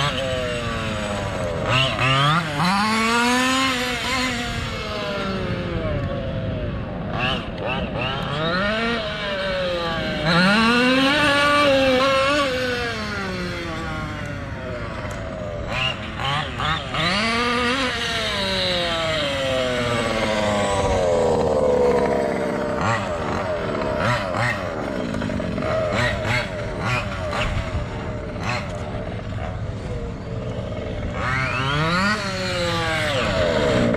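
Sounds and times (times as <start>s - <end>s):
rc buggy engine revving: 0.0s - 33.9s.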